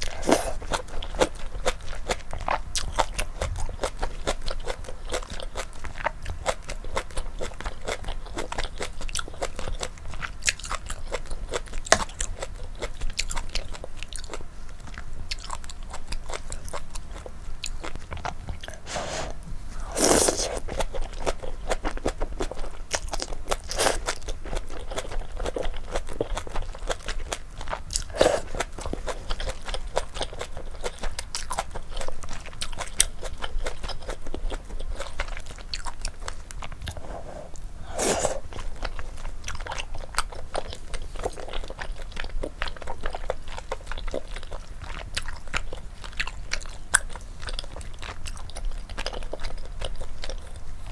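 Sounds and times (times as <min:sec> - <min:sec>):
wet chewing and biting: 0:00.0 - 0:50.7.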